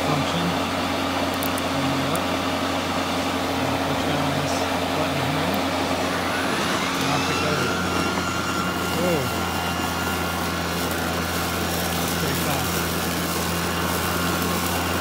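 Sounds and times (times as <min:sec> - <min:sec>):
lawn mower whirring: 0:00.0 - 0:15.0
mower drive whine: 0:00.0 - 0:15.0.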